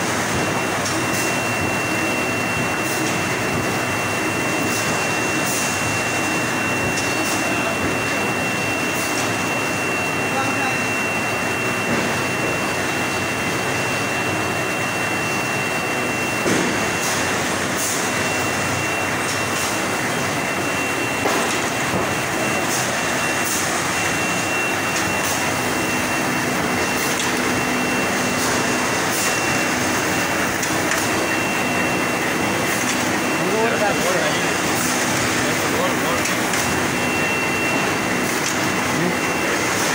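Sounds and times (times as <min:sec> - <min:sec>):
machine running with whine: 0:00.0 - 0:39.9.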